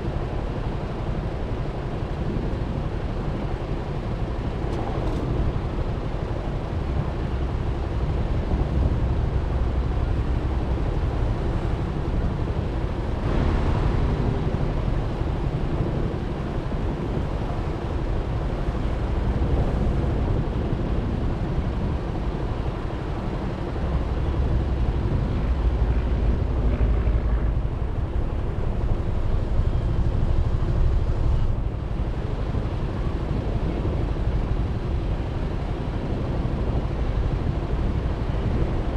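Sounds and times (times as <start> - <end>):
road noise: 0.0 - 38.9
wind noise on microphone: 0.0 - 38.9.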